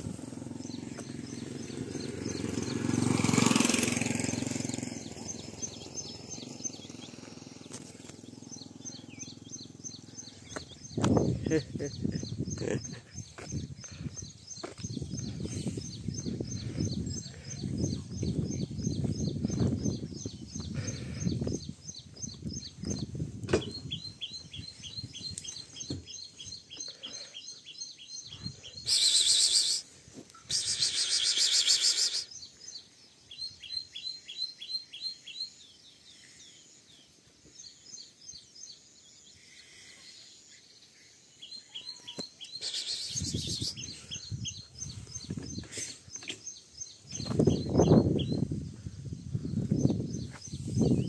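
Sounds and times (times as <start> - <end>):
bird chirping rapidly: 0.0 - 36.0, 41.4 - 51.0.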